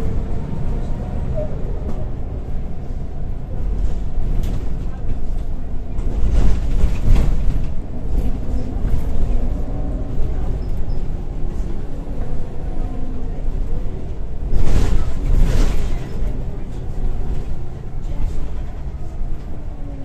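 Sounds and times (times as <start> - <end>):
bus diesel engine drone: 0.0 - 20.0.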